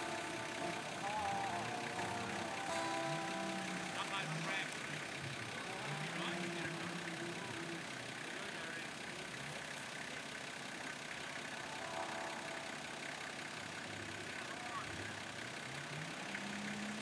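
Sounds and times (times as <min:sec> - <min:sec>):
faint engine at low revs: 0:00.0 - 0:17.0.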